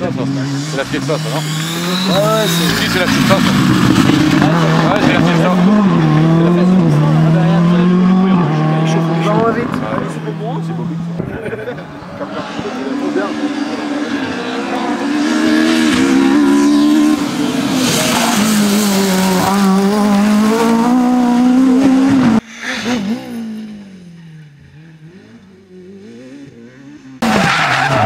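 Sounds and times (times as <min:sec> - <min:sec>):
distant engine revving: 0:00.0 - 0:28.0
rally car engine passing: 0:00.0 - 0:28.0.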